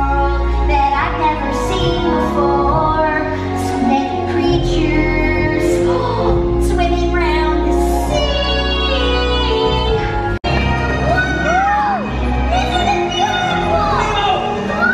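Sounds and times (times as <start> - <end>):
musical backing: 0.0 - 14.9.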